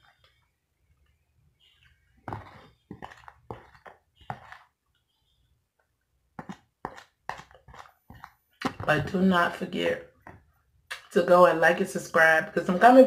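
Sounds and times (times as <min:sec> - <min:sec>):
scooping cornstarch in plastic tub: 0:00.0 - 0:11.2.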